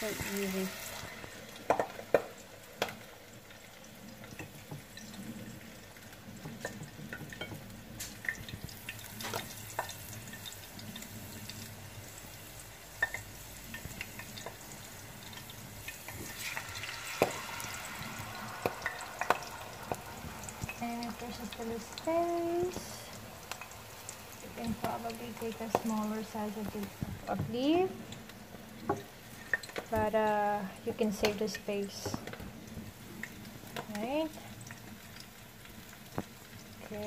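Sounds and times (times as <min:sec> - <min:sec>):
hot oil sizzling: 0:00.0 - 0:37.0.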